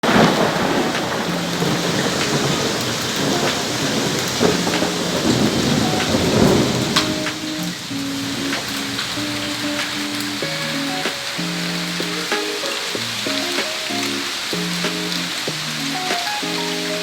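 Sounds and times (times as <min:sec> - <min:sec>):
heavy rain falling: 0:00.0 - 0:17.0
thunder rumbling: 0:00.0 - 0:17.0.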